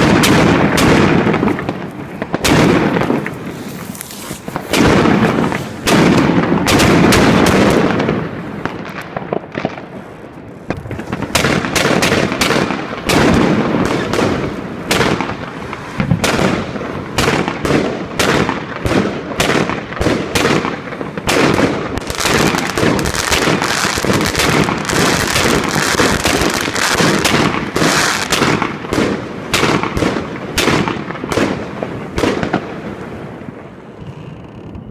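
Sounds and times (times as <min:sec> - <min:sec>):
fireworks cake shots crackling: 0:00.0 - 0:33.0.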